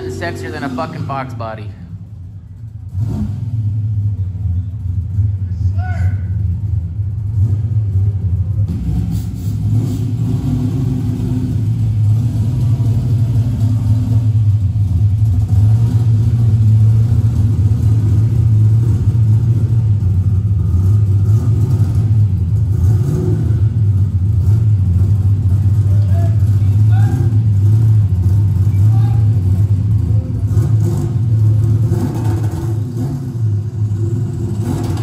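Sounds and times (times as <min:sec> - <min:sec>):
car engine rumbling on tv: 0:00.0 - 0:35.0.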